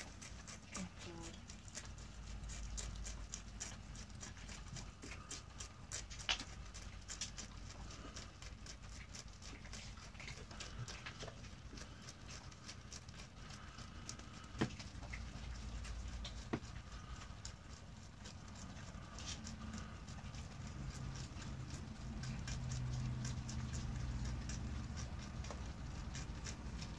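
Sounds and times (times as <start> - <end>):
rabbit chewing: 0.0 - 26.9.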